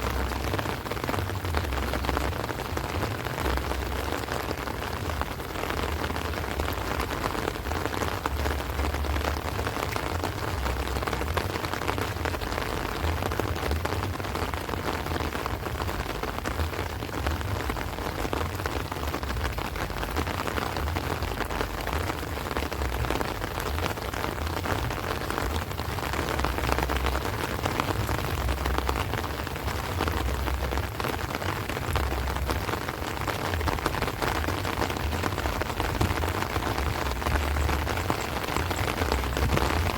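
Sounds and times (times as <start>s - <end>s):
heavy rain on plants: 0.0s - 39.9s.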